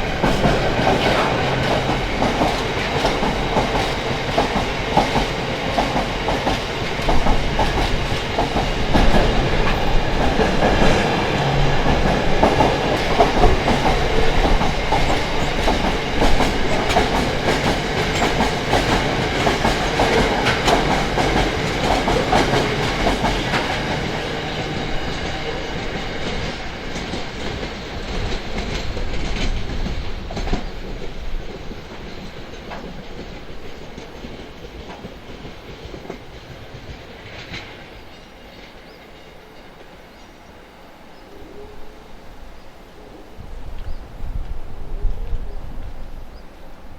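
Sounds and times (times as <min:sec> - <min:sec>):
train wheels clickety-clack: 0:00.0 - 0:40.0.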